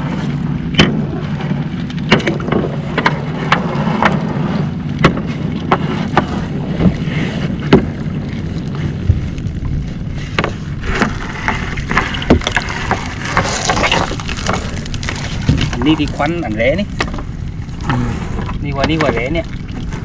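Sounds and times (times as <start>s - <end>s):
boat engine running: 0.0s - 20.0s
net and gear knocking hull: 0.0s - 20.0s.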